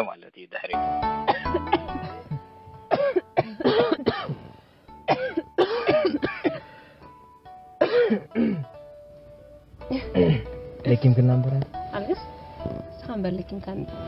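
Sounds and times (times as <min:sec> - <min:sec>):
soft background music: 0:00.7 - 0:14.0.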